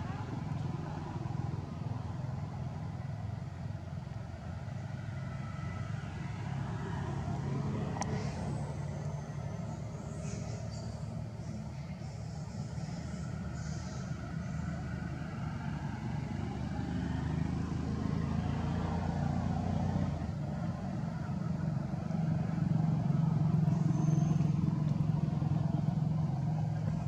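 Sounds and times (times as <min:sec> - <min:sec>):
engine running low drone: 0:00.0 - 0:27.0.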